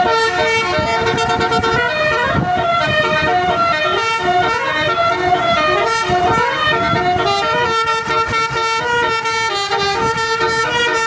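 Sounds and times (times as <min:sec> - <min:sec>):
musical air horns playing a tune: 0:00.0 - 0:11.0.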